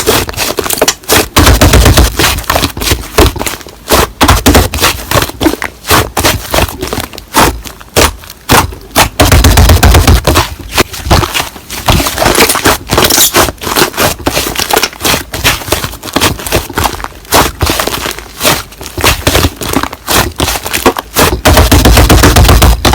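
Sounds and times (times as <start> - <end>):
slime popping and crackling: 0.0 - 22.9.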